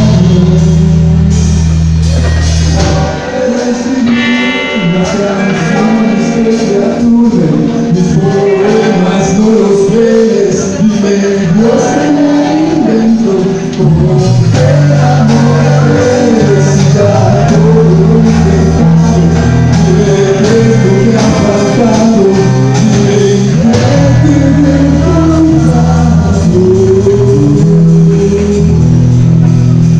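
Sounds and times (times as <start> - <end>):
man singing: 0.0 - 1.5, 2.6 - 29.5
rock band playing live: 0.0 - 29.9.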